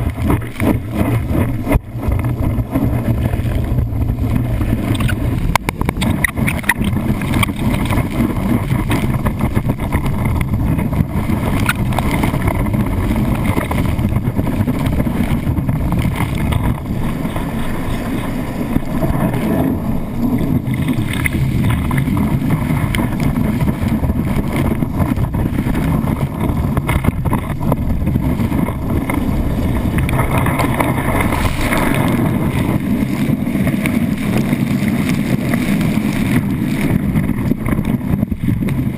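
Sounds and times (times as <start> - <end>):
water rushing and spraying: 0.0 - 38.9
wind on microphone: 0.0 - 38.9.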